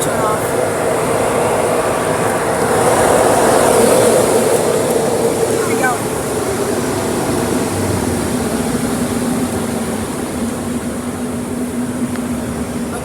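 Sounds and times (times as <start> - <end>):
air-dryer blowers rushing: 0.0 - 13.0.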